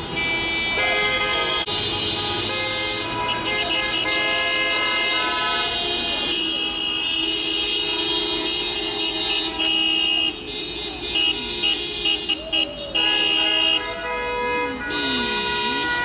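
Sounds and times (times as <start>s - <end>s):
car horns honking: 0.0s - 16.0s.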